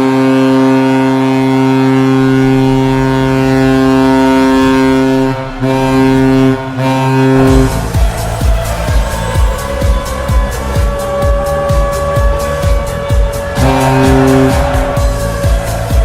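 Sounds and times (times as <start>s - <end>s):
goal horn blasting: 0.0s - 16.0s.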